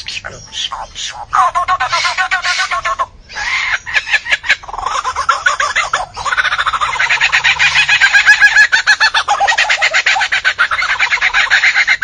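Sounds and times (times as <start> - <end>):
lyrebird mimicking calls: 0.0 - 12.0.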